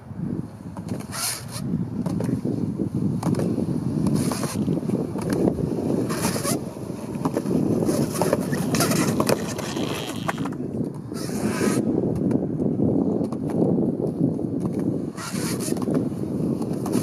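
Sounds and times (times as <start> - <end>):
skateboard wheels rolling on concrete: 0.0 - 17.0
skateboard clacking on pavement: 3.1 - 17.0.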